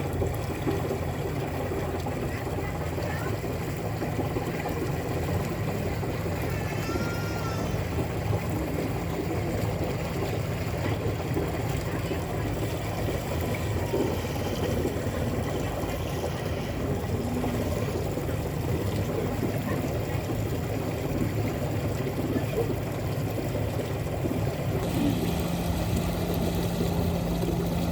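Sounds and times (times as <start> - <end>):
water rushing past boat: 0.0 - 27.9
electric boat motor hum: 3.8 - 27.9.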